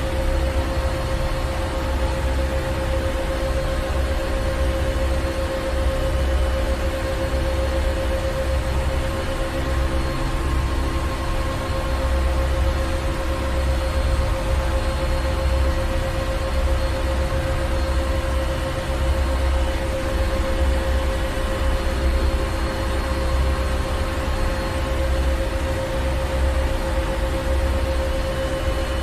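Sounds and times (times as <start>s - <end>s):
mechanical hum with steady tones: 0.0s - 29.0s.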